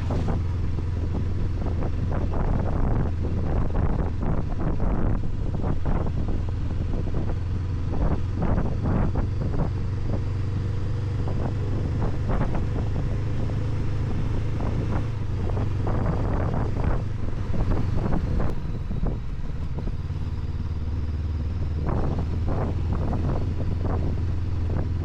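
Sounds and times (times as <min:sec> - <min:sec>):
wind buffeting microphone: 0:00.0 - 0:20.6, 0:21.3 - 0:25.0
motorcycle engine running: 0:00.0 - 0:25.0.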